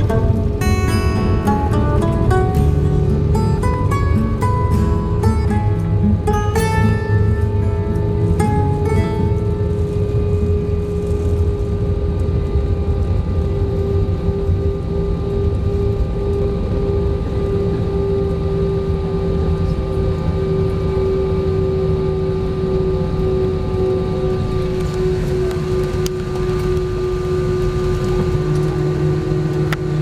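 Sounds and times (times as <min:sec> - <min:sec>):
low engine rumble: 0:00.0 - 0:30.0
steady whining tone: 0:00.0 - 0:30.0.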